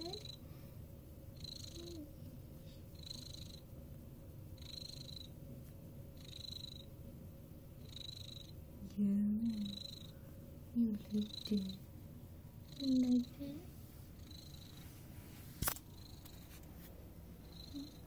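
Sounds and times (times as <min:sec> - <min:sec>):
cat purring: 0:00.0 - 0:00.6, 0:01.3 - 0:05.4, 0:06.1 - 0:07.0, 0:07.7 - 0:18.0.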